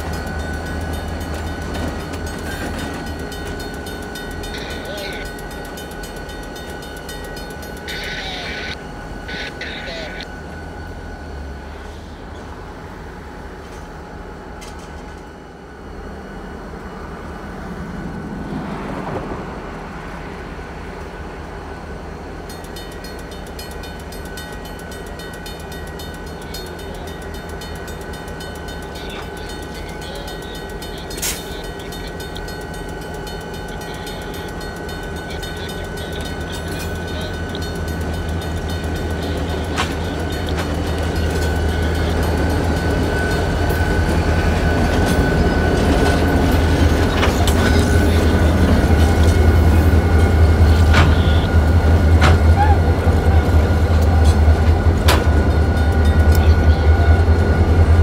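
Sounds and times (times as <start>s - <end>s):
diesel locomotives rumbling: 0.0s - 58.0s.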